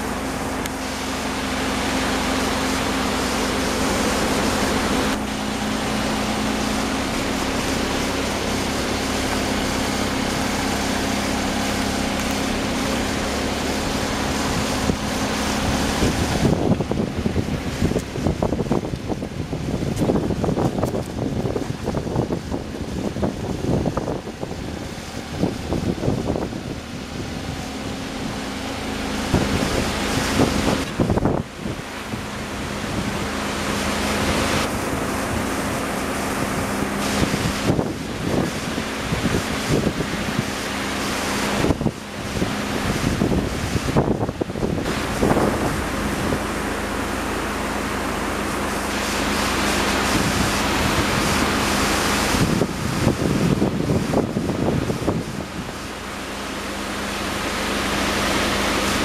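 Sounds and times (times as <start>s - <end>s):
wind buffeting microphone: 0.0s - 56.8s
river rushing: 0.0s - 59.0s
steady low hum: 0.0s - 59.0s.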